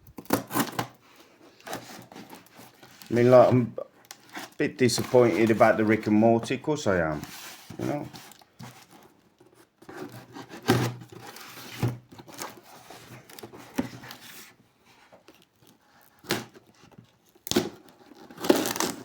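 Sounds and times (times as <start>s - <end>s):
cardboard rustling and scraping: 0.2s - 19.0s.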